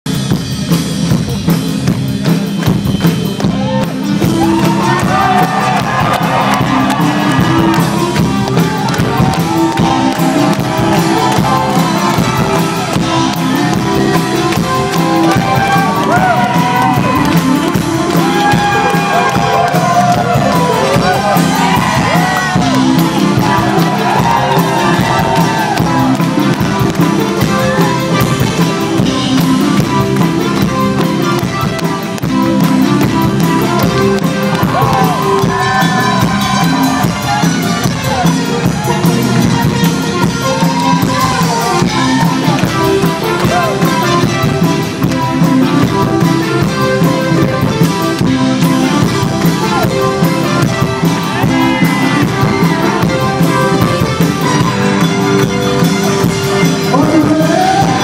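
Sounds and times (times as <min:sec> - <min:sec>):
live rock band playing: 0:00.1 - 0:58.0.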